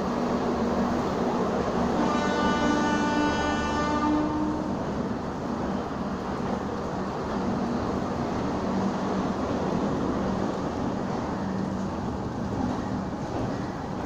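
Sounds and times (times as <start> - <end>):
wheels rumbling on rails: 0.0 - 14.0.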